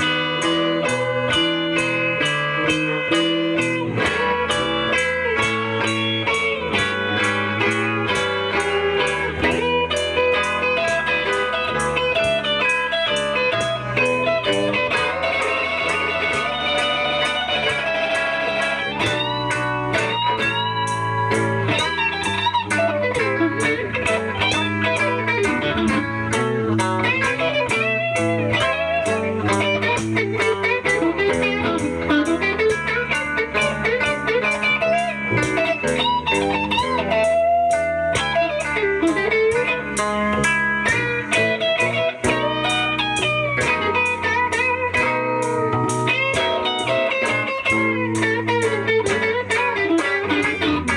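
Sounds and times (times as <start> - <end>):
electric blues guitar solo: 0.0 - 50.9
steady beat: 0.0 - 50.9
walking bass line: 0.0 - 50.9.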